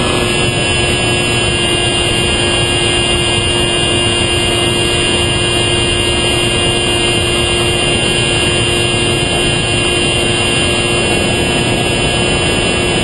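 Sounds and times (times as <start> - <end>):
electric motor and propeller drone: 0.0 - 13.0
low hum: 0.0 - 13.0
thin high whine: 0.0 - 13.0
wind noise: 0.0 - 13.0.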